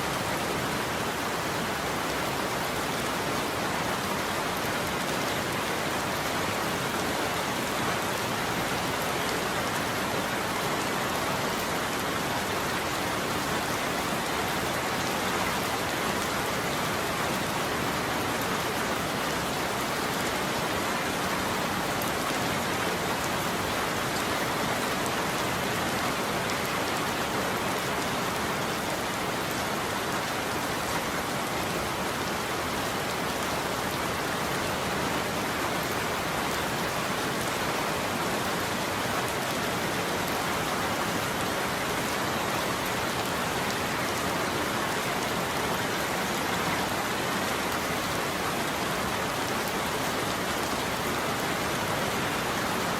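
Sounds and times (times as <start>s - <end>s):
heavy rain on a roof: 0.0s - 52.9s.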